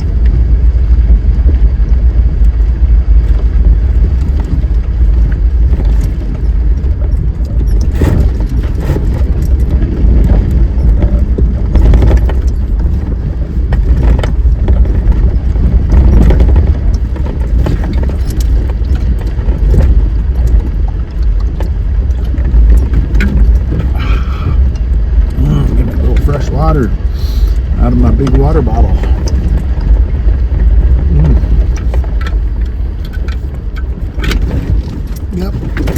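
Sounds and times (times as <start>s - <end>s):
vehicle rumbling on dirt trail: 0.0s - 35.9s
knocks and rattles from bumps: 2.6s - 27.0s, 27.6s - 35.9s.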